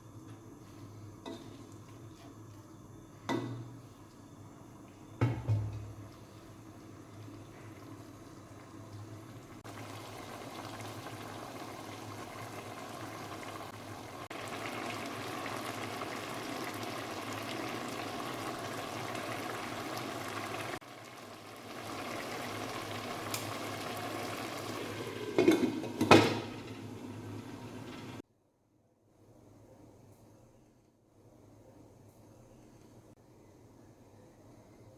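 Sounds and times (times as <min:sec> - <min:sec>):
rice bubbling in boiling water: 0:00.0 - 0:28.2.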